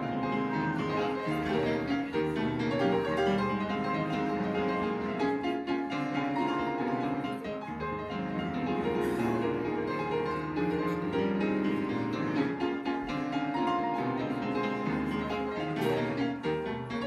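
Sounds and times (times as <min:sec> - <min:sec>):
instrumental piano music: 0:00.0 - 0:17.0.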